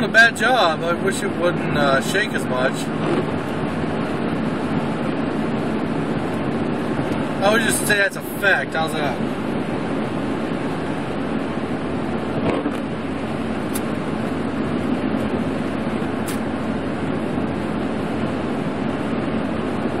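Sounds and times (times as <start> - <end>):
defroster fan blowing: 0.0 - 20.0
engine running: 0.0 - 20.0.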